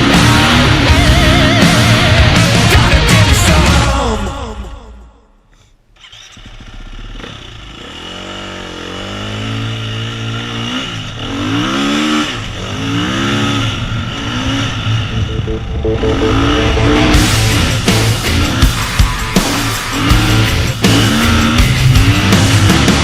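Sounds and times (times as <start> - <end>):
dirt bike engine revving: 0.0 - 2.7, 6.0 - 23.0.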